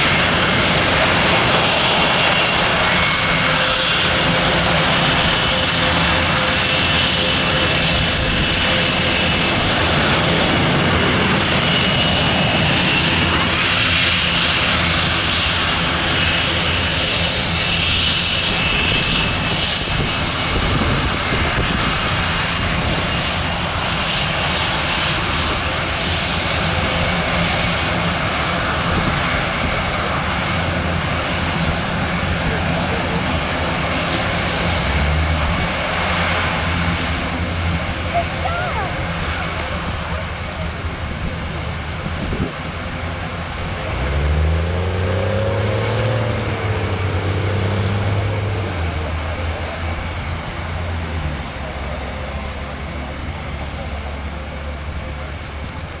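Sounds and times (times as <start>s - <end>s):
jet engines with high whine: 0.0s - 56.0s
turboprop aircraft taxiing: 0.0s - 56.0s.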